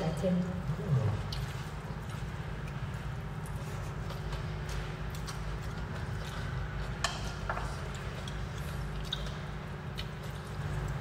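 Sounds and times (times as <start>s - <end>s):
chewing and mouth noises: 0.6s - 11.0s.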